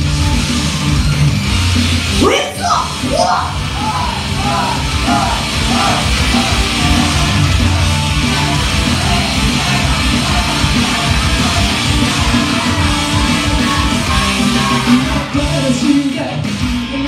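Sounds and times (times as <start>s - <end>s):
loud rock music over speakers: 0.0s - 17.0s.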